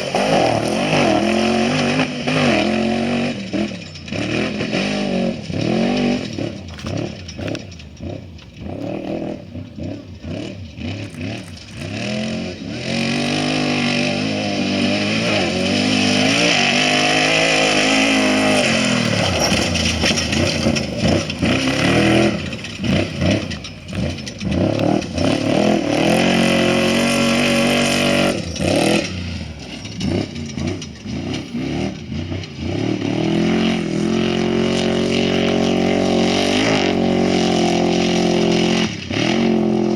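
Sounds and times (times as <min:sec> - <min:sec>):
race engines revving past: 0:00.0 - 0:39.9.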